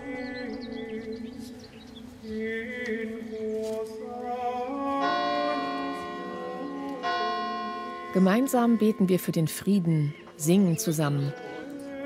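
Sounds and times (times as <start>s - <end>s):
slow soft music: 0.0s - 12.0s.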